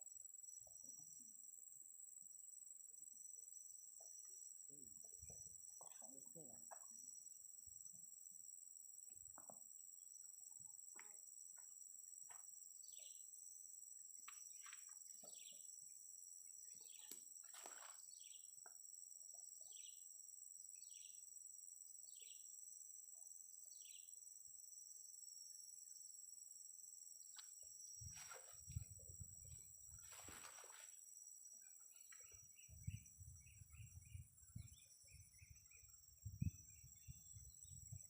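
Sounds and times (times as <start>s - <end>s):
high-pitched insect drone: 0.0s - 38.0s.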